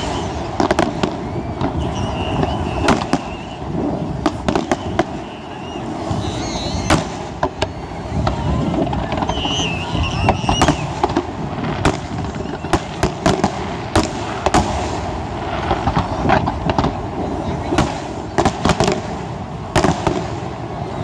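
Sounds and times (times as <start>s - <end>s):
continuous fireworks rumble: 0.0s - 21.0s.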